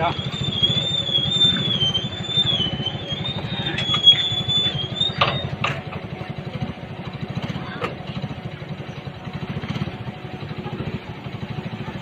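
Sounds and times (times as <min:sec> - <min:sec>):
high wavering whine: 0:00.0 - 0:12.0
small petrol engine running: 0:00.0 - 0:12.0.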